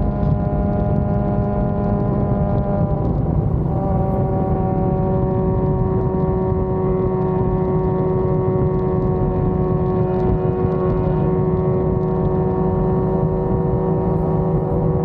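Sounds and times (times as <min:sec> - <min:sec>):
dense low rumble: 0:00.0 - 0:15.0
motorcycle engine running: 0:00.0 - 0:15.0.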